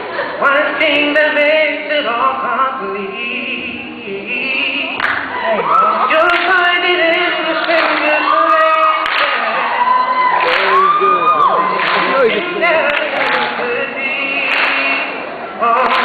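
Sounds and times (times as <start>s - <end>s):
young man singing: 0.2s - 16.0s.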